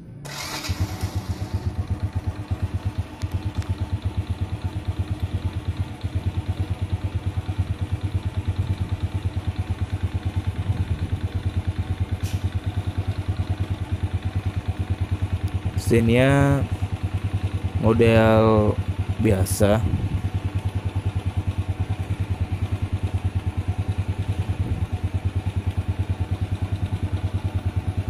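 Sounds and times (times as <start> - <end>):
motorcycle engine starting and idling: 0.0 - 28.0.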